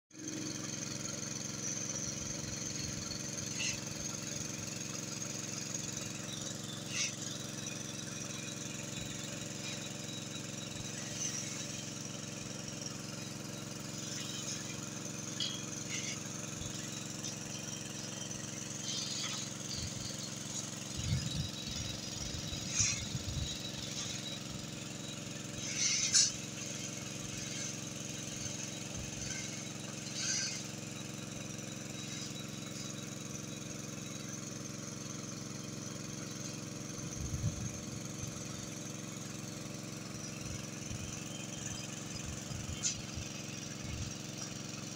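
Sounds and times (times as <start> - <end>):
diesel excavator engine running: 0.2 - 44.9.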